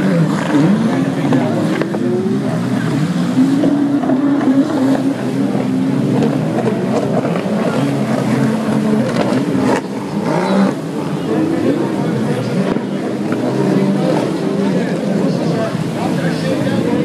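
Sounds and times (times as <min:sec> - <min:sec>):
personal watercraft engines racing: 0:00.0 - 0:17.0.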